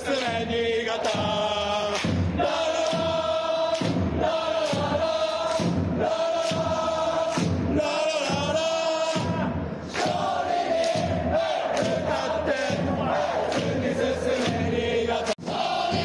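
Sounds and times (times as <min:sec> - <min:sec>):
crowd singing a chant: 0:00.0 - 0:16.0.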